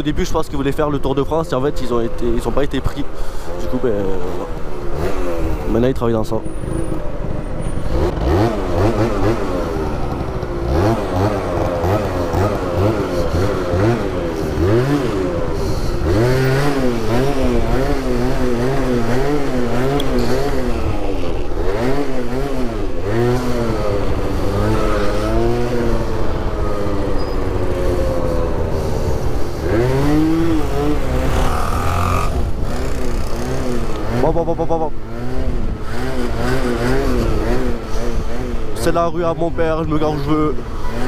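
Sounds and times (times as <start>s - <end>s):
scooter engine revving: 4.0s - 38.9s, 39.9s - 41.0s.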